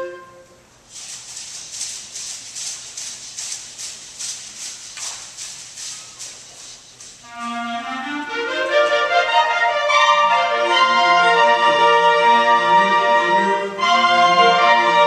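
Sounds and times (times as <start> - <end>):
shaker rhythm: 0.6 - 15.0.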